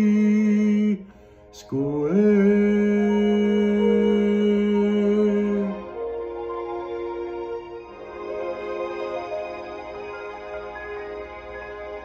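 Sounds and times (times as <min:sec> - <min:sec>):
instrumental backing track chords: 0:00.0 - 0:12.0.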